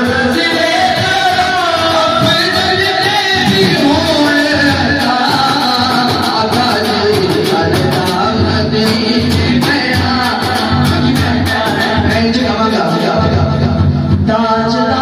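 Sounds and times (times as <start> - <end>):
light percussion: 0.0 - 14.8
man singing devotional song: 0.0 - 15.0.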